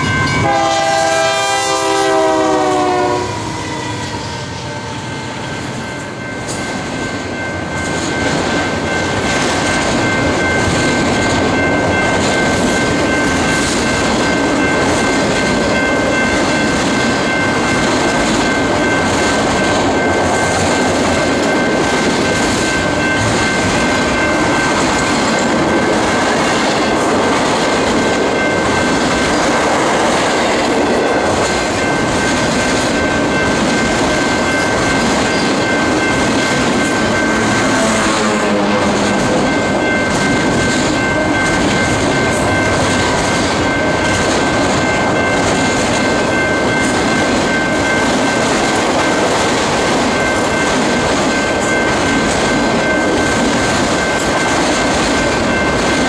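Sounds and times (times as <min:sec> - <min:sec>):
high ringing tone: 0:00.0 - 0:29.8, 0:30.8 - 0:56.0
freight train wheels clattering on rails: 0:00.0 - 0:56.0.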